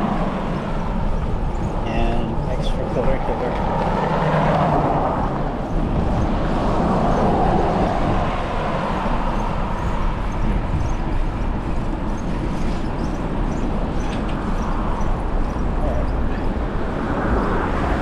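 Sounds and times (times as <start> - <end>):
bicycle road noise: 0.0 - 18.0
wind on microphone: 0.0 - 18.0.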